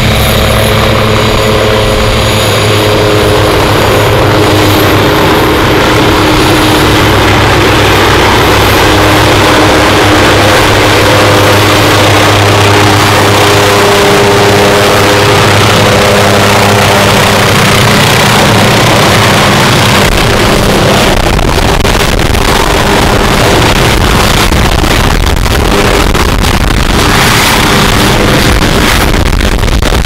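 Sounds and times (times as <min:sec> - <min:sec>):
helicopter rotor noise: 0:00.0 - 0:30.0
helicopter turbine whine: 0:00.0 - 0:30.0
rotor downwash buffeting microphone: 0:00.0 - 0:30.0.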